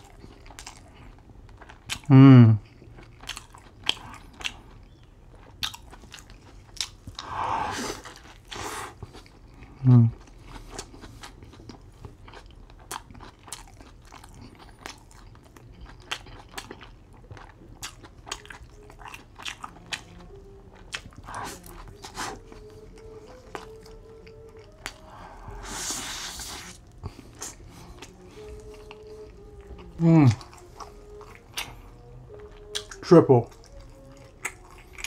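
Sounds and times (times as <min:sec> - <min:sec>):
close chewing with mouth clicks: 0:00.0 - 0:35.0.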